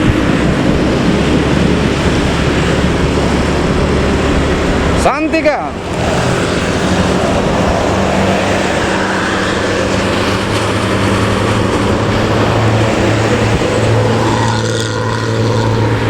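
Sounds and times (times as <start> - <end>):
bus engine exhaust drone: 0.0 - 16.0
road noise: 0.0 - 16.0.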